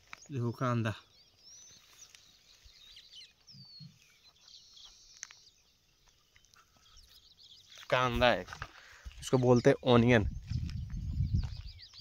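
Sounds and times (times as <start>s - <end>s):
quiet rural ambience: 0.0s - 12.0s.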